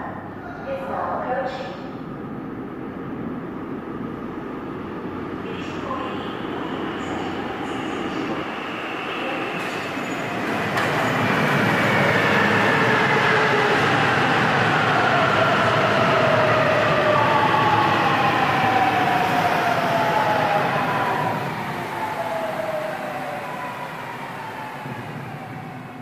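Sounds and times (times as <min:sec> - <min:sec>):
subway train wheels on rail: 0:00.0 - 0:26.0.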